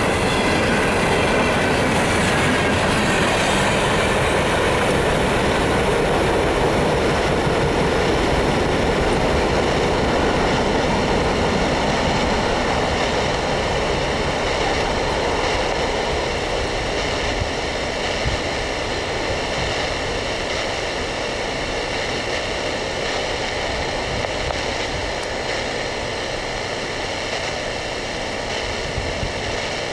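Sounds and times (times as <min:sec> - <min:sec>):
freight train wheels rumbling: 0:00.0 - 0:29.9.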